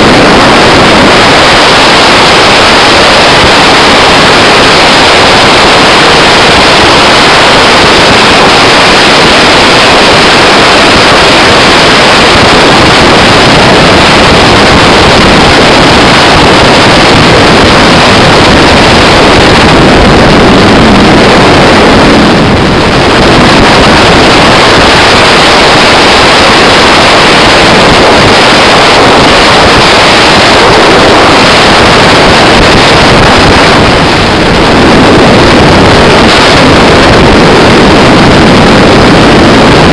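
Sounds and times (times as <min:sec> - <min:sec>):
boat engine and rushing water: 0:00.0 - 0:39.9
wind buffeting microphone: 0:00.0 - 0:39.9.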